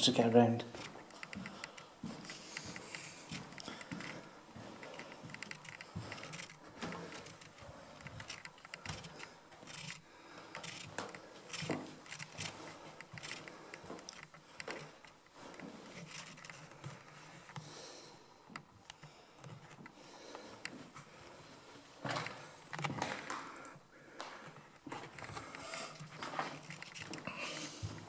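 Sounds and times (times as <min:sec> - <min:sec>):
footsteps on debris-strewn floor: 0:00.7 - 0:17.6, 0:19.5 - 0:28.0.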